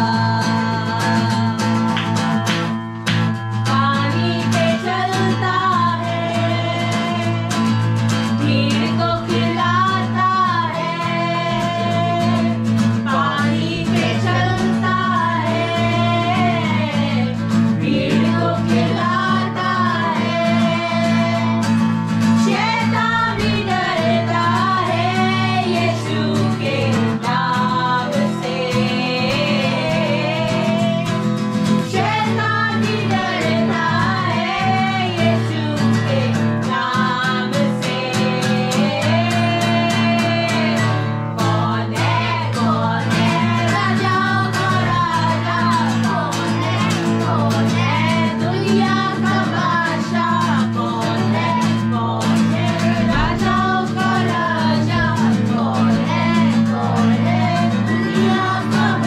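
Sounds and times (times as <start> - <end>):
person singing: 0.0 - 2.7, 3.5 - 21.6, 22.4 - 31.2, 31.9 - 59.0
acoustic guitar: 0.0 - 59.0.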